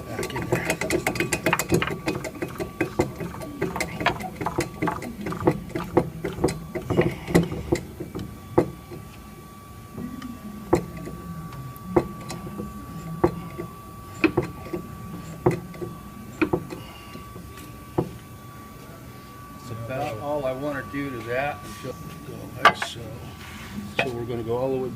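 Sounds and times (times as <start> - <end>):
low hum: 0.0 - 24.9.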